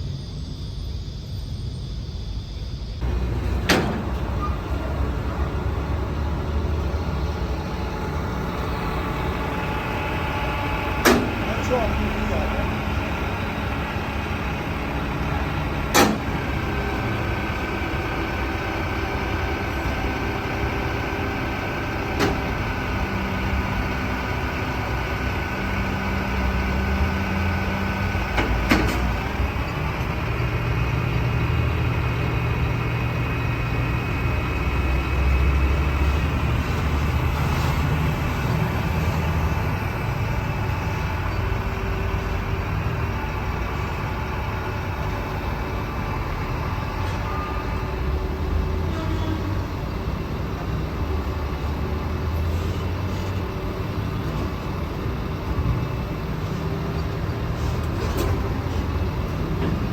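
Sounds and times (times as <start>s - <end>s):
truck engine running: 3.0s - 59.9s.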